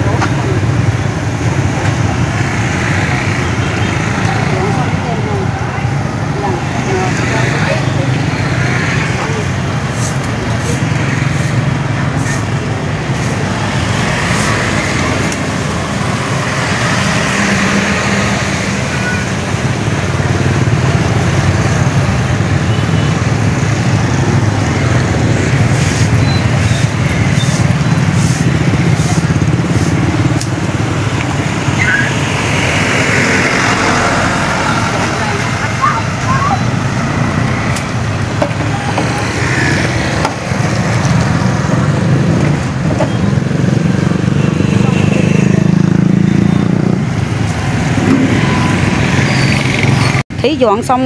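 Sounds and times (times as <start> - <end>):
motorbike engines droning: 0.0 - 51.0
road noise on wet street: 0.0 - 51.0.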